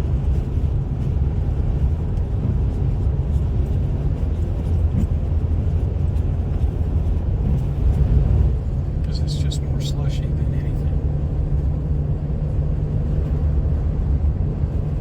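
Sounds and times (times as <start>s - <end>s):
car engine drone: 0.0s - 15.0s
tyres on slushy road: 0.1s - 15.0s.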